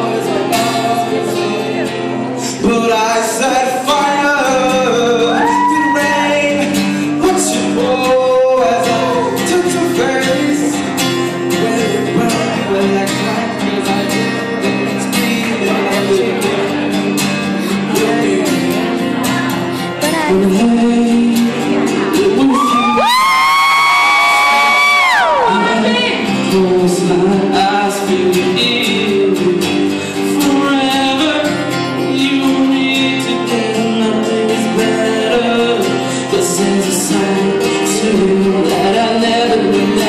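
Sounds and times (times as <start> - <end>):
acoustic guitar strumming: 0.0 - 40.0
person singing: 0.0 - 40.0.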